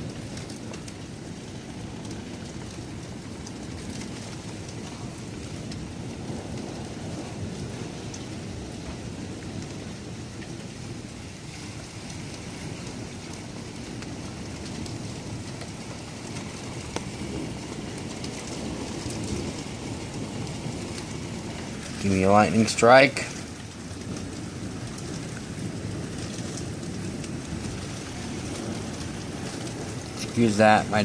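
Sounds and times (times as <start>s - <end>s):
heavy rain falling: 0.0s - 31.0s
low thunder rumble: 0.0s - 31.0s.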